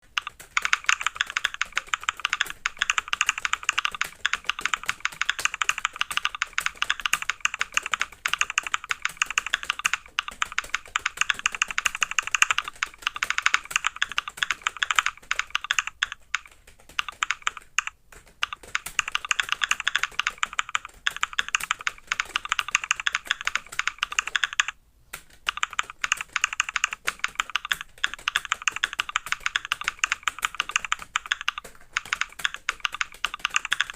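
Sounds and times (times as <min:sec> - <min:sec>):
fast keyboard typing: 0:00.0 - 0:33.9.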